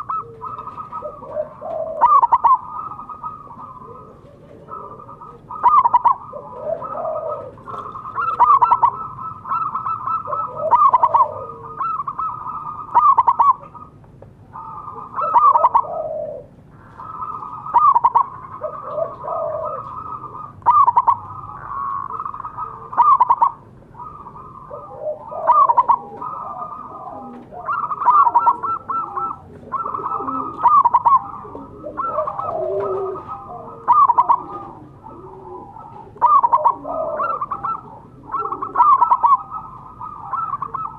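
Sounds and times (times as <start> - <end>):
dove cooing: 0.0 - 40.9
softer lower bird calls: 0.0 - 40.9.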